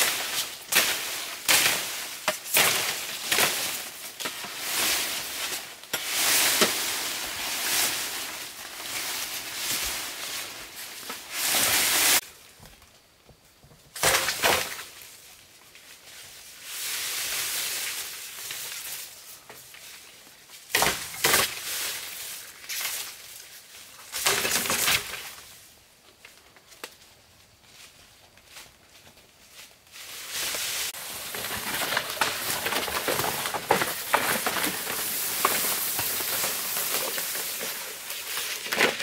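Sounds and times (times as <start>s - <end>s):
bamboo and undergrowth rustling: 0.0s - 39.0s.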